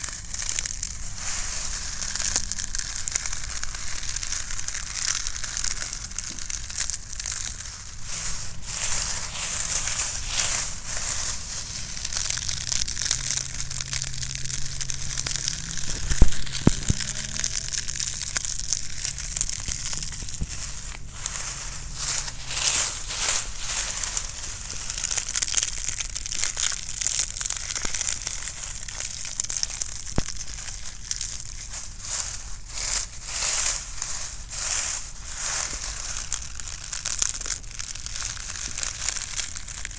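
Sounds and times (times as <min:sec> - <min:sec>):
dry leaves crunching: 0:00.0 - 0:39.9.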